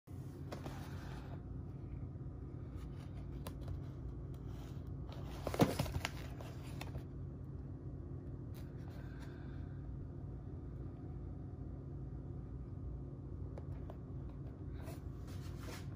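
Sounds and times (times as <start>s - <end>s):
steady low hum: 0.1s - 15.9s.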